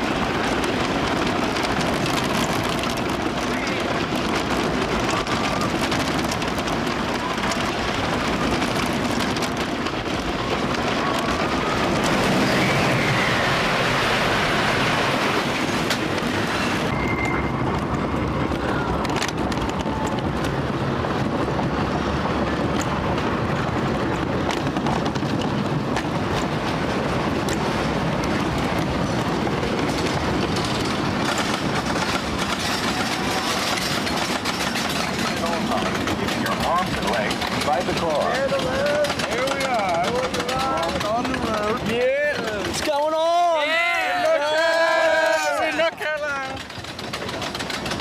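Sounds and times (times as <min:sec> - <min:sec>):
roller coaster wheels rumbling: 0:00.0 - 0:48.0.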